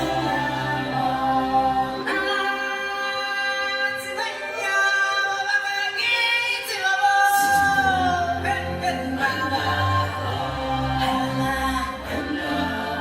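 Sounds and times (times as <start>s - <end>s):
choir singing long notes: 0.0s - 5.2s, 7.4s - 13.0s.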